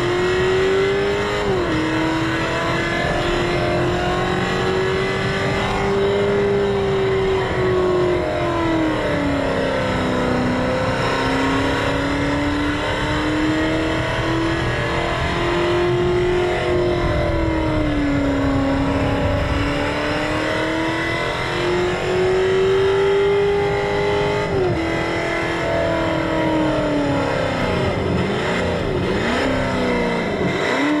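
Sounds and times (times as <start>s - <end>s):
artificial engine sound: 0.0s - 31.0s.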